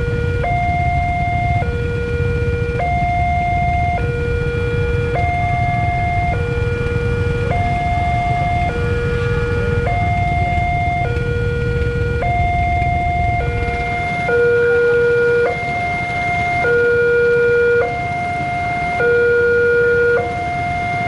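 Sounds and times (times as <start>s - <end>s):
level crossing two-tone alarm: 0.0s - 21.0s.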